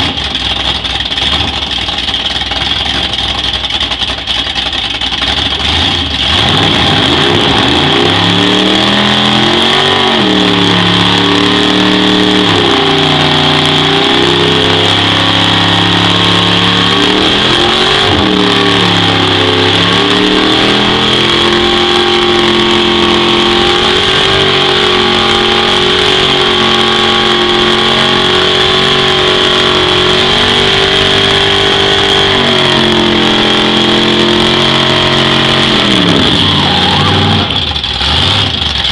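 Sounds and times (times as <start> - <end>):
car engine revving high: 5.2 - 38.9
tyres squealing on concrete: 6.6 - 38.6.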